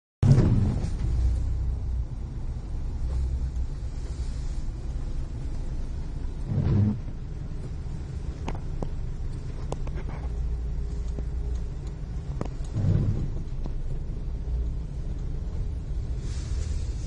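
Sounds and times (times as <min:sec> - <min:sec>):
road traffic rumble: 0:00.2 - 0:17.0.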